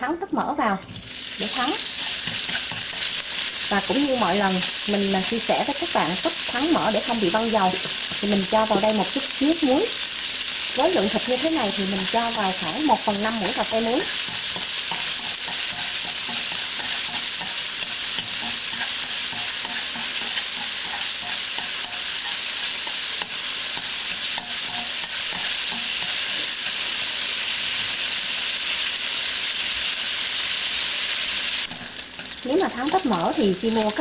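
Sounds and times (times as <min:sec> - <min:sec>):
pork sizzling in a wok: 0:00.0 - 0:34.0.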